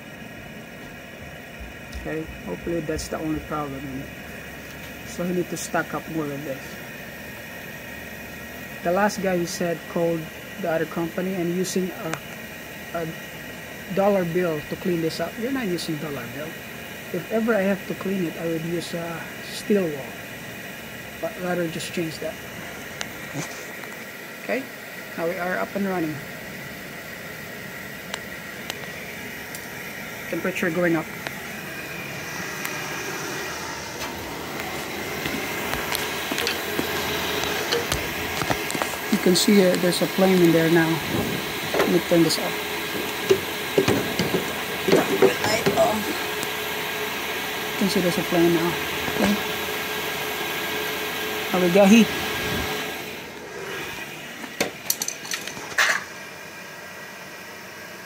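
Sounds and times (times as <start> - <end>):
boiler burner whooshing hum: 0.0 - 58.0.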